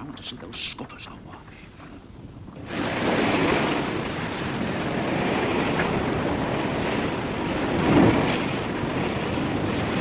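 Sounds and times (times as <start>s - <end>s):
sea waves rushing: 0.0s - 10.0s
wind: 0.0s - 10.0s.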